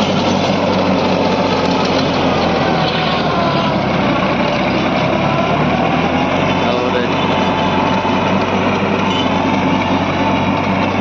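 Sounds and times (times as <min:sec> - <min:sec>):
tiller blades churning soil: 0:00.0 - 0:11.0
tractor diesel engine under load: 0:00.0 - 0:11.0.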